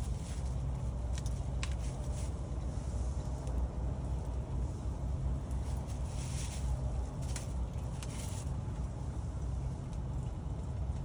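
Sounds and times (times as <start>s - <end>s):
wood fire rumbling: 0.0s - 11.0s.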